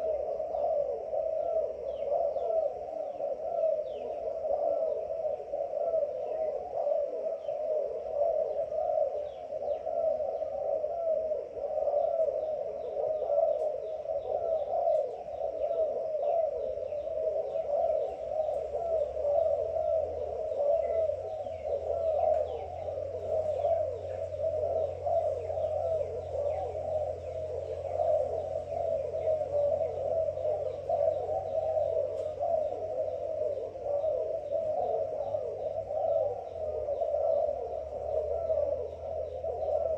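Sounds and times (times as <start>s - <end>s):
doves cooing: 0.0s - 39.9s
low steady hum: 0.0s - 39.9s
small birds chirping: 0.0s - 39.9s.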